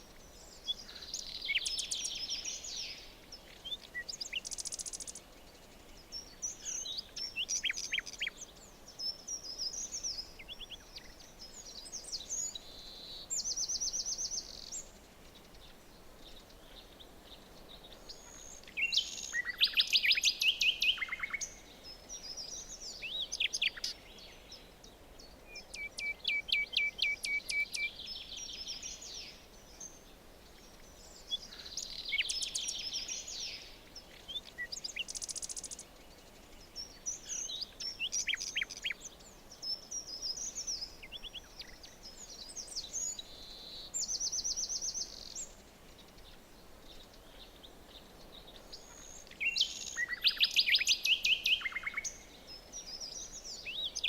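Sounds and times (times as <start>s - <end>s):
faint steady background hiss: 0.0s - 54.0s
songbirds singing: 0.0s - 54.0s.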